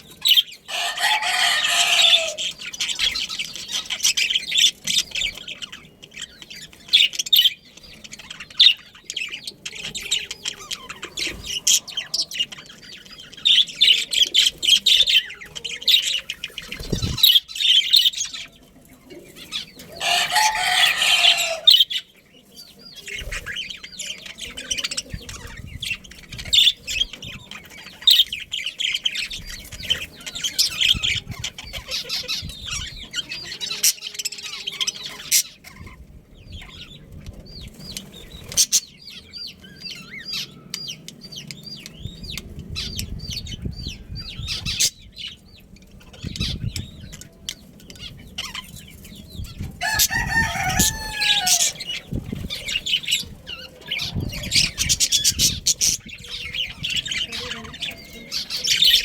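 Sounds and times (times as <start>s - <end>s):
budgerigars chirping: 0.0s - 18.6s, 19.2s - 59.0s.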